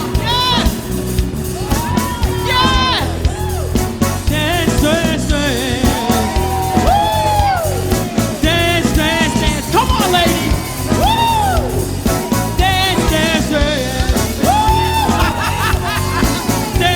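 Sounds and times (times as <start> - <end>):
drums: 0.0 - 16.9
worship band playing: 0.0 - 16.9.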